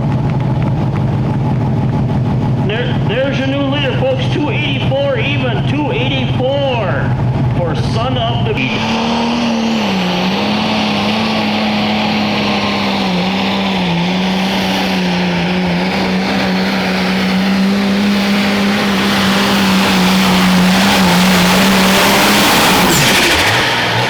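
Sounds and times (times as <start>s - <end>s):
vehicle engine running hard: 0.0s - 24.0s.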